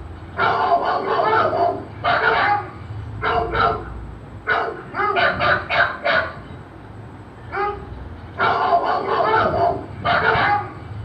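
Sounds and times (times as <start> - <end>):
dog barking: 0.4 - 3.9, 4.5 - 6.4, 7.5 - 10.8.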